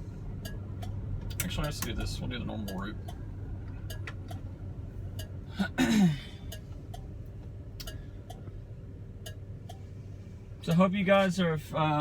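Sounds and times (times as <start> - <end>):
car engine and road hum: 0.0 - 12.0
turn signal flasher ticking: 0.3 - 5.5, 6.4 - 11.4.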